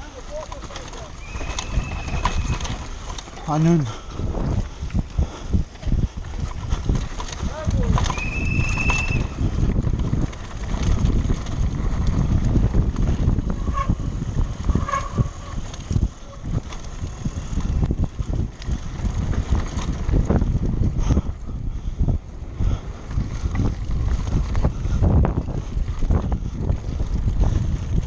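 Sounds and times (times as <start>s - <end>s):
bike rattling and knocking: 0.0s - 28.0s
wind buffeting microphone: 0.0s - 28.0s.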